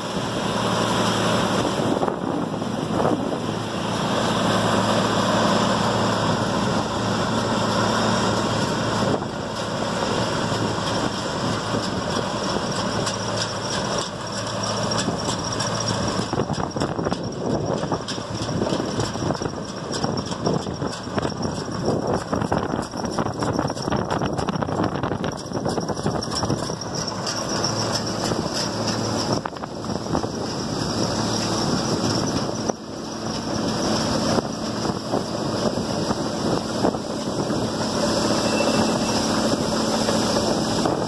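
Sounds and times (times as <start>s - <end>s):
combine harvester droning: 0.0s - 41.0s.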